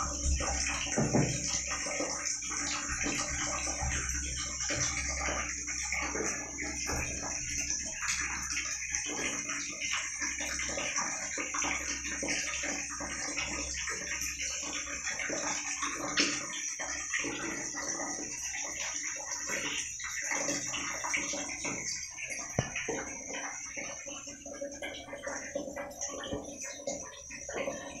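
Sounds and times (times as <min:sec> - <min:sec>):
water splashing in plastic tub: 0:00.0 - 0:28.0.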